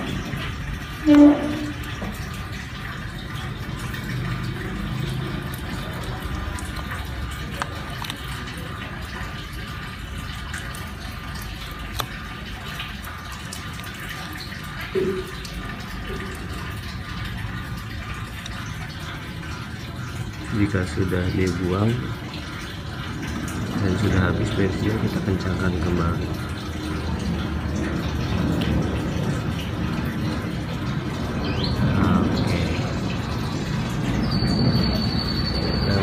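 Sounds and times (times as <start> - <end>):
fuel trickling from drain: 0.0 - 36.0.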